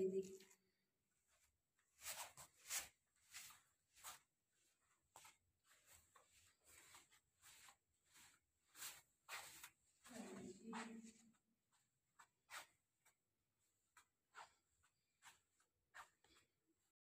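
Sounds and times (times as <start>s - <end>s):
footsteps on carpet: 1.3s - 16.6s.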